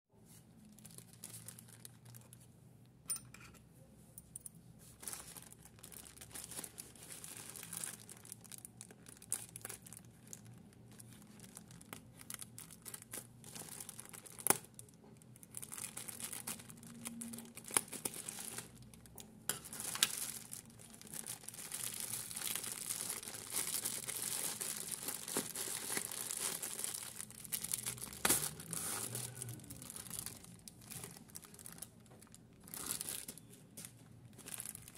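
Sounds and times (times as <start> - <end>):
plastic bag crinkling and tearing: 0.4 - 2.5, 4.9 - 34.9.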